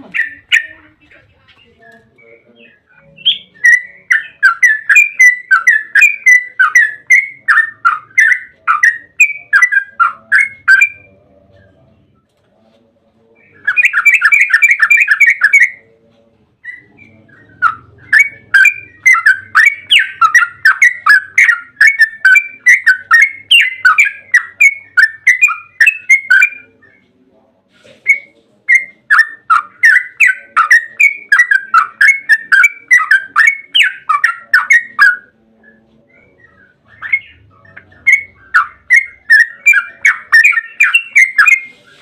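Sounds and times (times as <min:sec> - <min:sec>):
bird singing chattering notes: 0:00.0 - 0:11.9, 0:13.4 - 0:16.0, 0:16.6 - 0:27.2, 0:28.0 - 0:42.0.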